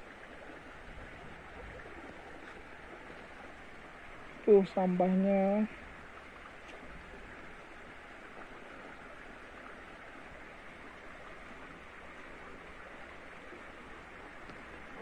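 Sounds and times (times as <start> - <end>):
stream water running over rocks: 0.0 - 15.0.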